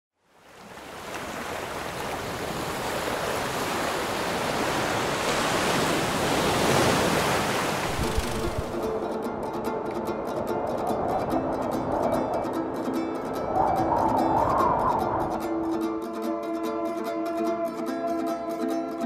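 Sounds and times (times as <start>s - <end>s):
sea waves on stony beach: 0.3s - 15.9s.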